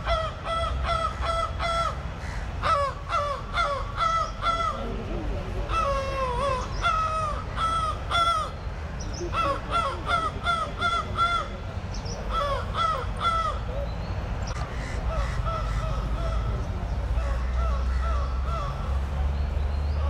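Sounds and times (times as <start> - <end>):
crows cawing: 0.0 - 4.8, 5.7 - 8.6, 9.2 - 13.7, 14.5 - 19.0.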